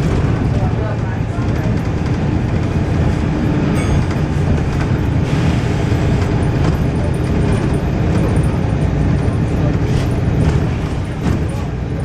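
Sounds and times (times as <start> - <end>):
bus diesel engine rumble: 0.0 - 12.0.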